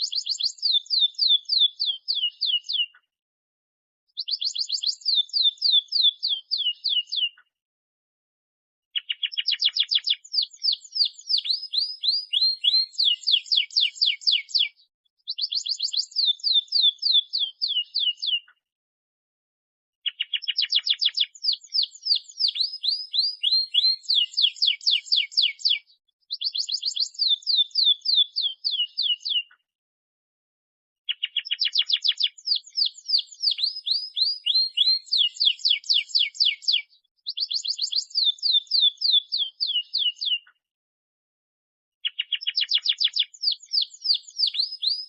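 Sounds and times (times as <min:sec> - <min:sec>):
canary singing trills: 0:00.0 - 0:03.0, 0:04.2 - 0:07.4, 0:09.0 - 0:18.5, 0:20.0 - 0:29.6, 0:31.1 - 0:40.5, 0:42.0 - 0:45.0.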